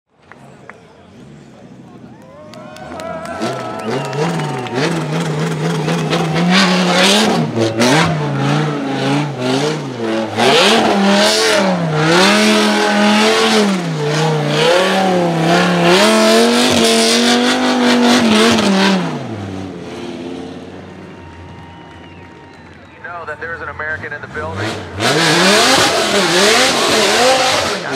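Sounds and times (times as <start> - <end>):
car engine revving hard: 1.0 - 20.9, 23.7 - 27.9.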